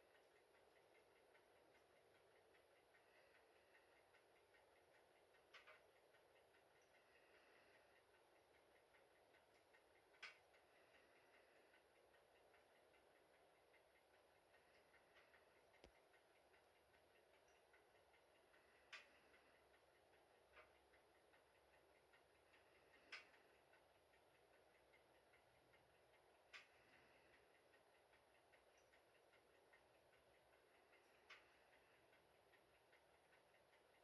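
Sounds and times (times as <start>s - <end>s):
embers ticking in a stove: 0.0s - 34.0s.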